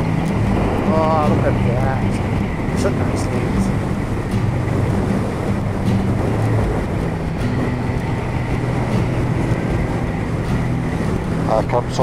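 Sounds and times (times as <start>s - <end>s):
motorcycle engine running: 0.0s - 12.0s
rushing air: 0.0s - 12.0s.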